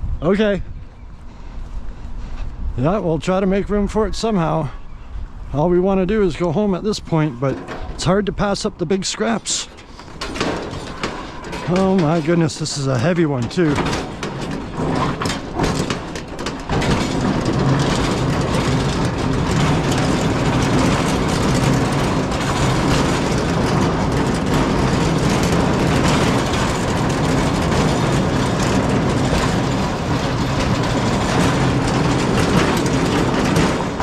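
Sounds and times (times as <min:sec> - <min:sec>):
loud mechanical rumble: 0:00.0 - 0:34.0.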